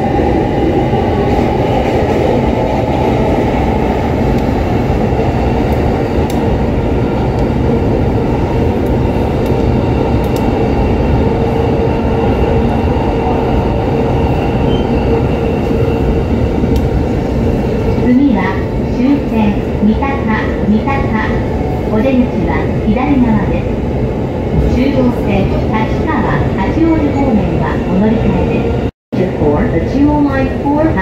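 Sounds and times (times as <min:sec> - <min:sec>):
train rumbling and rattling: 0:00.0 - 0:31.0.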